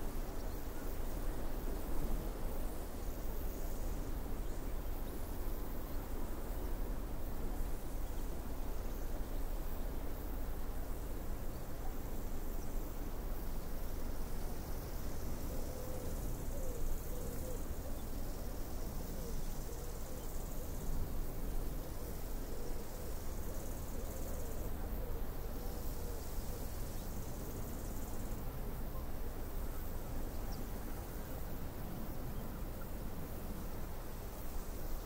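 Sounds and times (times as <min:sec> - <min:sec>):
faint high hiss: 0:00.0 - 0:35.0
wind: 0:00.0 - 0:35.0.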